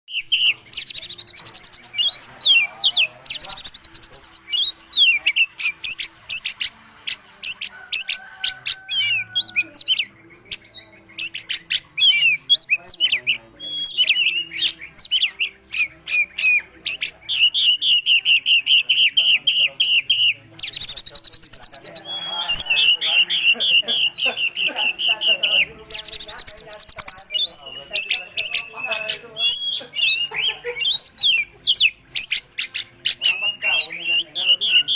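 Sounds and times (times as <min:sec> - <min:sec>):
bird singing whistles and trills: 0:00.1 - 0:34.9.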